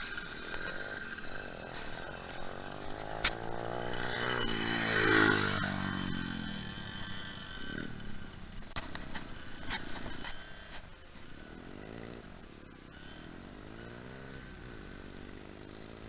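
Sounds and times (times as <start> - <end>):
motorbike engine passing: 0.0 - 16.0.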